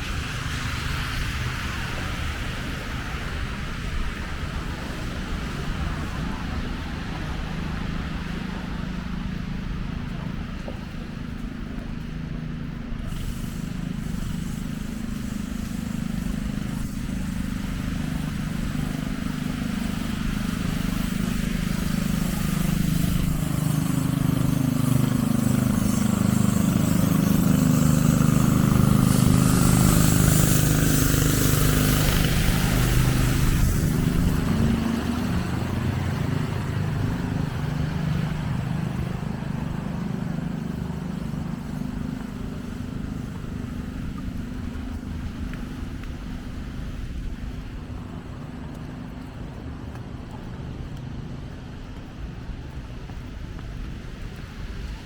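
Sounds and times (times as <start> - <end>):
tyres hissing: 0.0 - 49.3
city traffic rumble: 0.0 - 55.0
heavy vehicle engine: 0.0 - 55.0.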